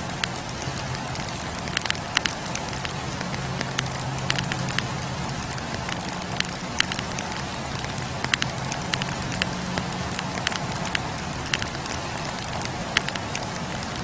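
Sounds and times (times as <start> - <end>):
burning logs crackling and popping: 0.0 - 14.0.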